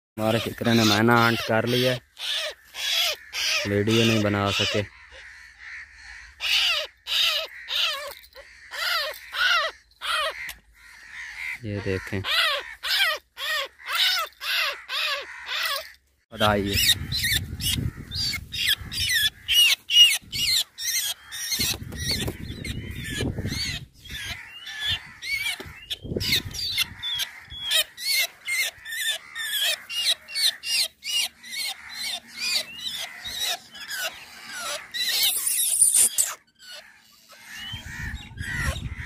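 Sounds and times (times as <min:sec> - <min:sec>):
bird squawking distress calls: 0:00.2 - 0:39.0.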